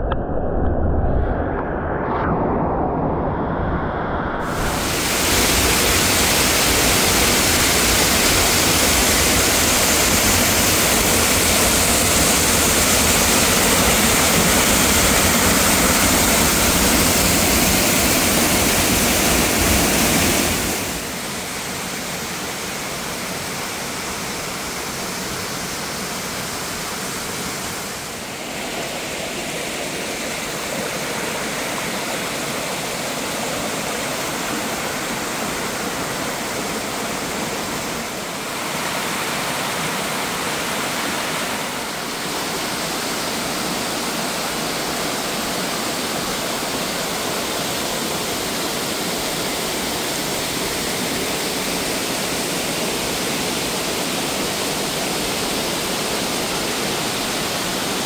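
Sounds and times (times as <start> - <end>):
waterfall roaring: 4.4 - 58.0.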